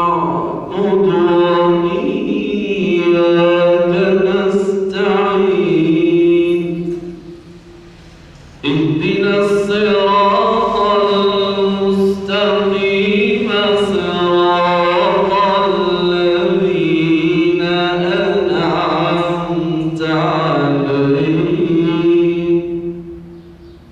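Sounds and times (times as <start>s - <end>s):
man reciting melodic chant into microphone: 0.0s - 23.8s.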